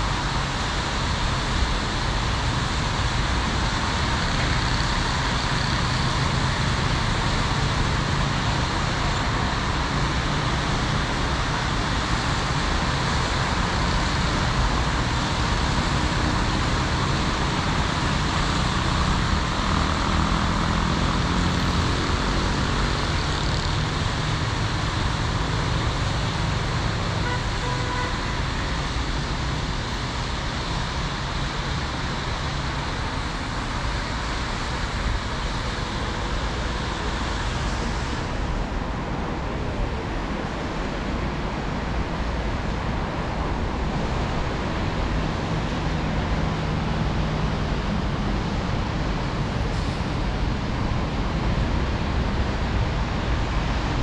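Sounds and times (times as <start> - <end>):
cars driving on wet road: 0.0 - 54.0.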